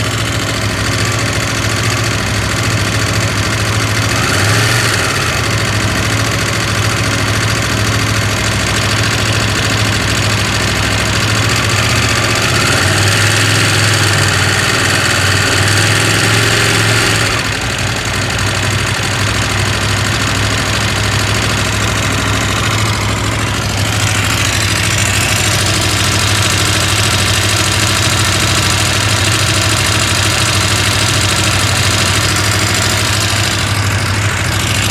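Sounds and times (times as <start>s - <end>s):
motorcycle engine idling with rattle: 0.0s - 34.9s.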